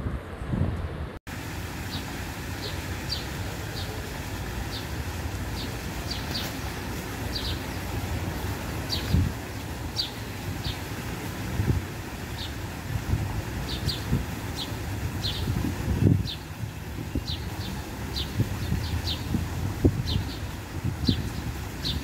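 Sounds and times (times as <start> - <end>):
wind buffeting microphone: 0.0 - 1.2, 5.1 - 22.0
fountain water splashing: 1.3 - 22.0.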